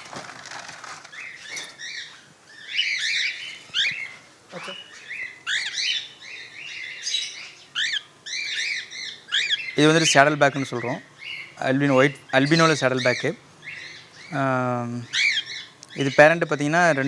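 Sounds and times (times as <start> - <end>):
cockatiels chirping: 1.1 - 17.0.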